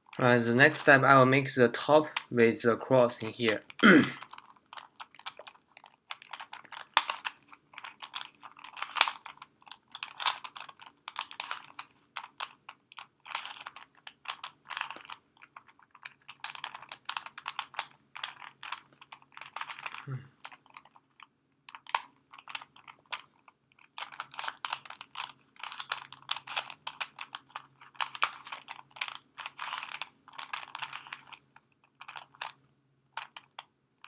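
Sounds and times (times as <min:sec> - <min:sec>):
plastic puzzle cube clicking: 0:03.2 - 0:32.6.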